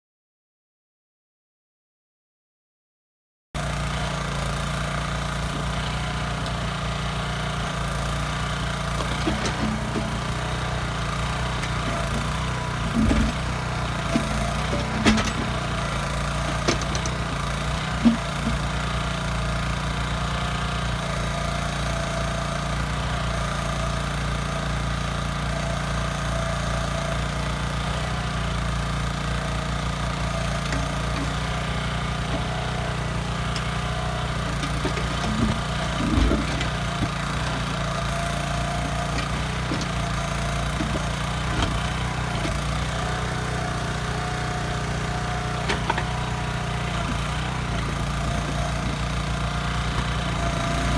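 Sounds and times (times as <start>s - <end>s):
small engine running: 3.6s - 50.9s.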